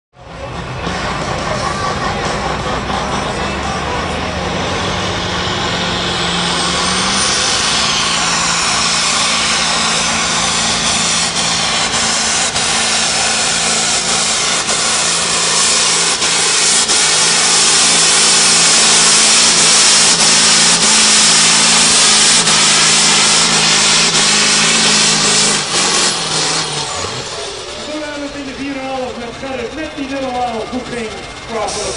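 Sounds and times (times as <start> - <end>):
diesel tractor engine running: 0.1 - 31.9
high whine: 0.3 - 31.9.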